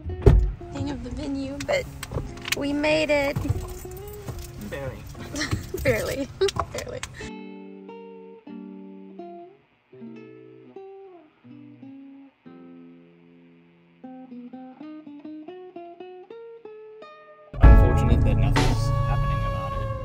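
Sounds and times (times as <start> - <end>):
plucked guitar music: 0.0 - 20.0.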